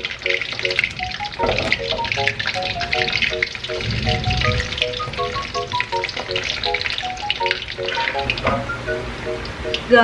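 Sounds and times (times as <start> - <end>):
bananas sizzling in hot oil: 0.0 - 10.0
plucked melody music: 0.0 - 10.0.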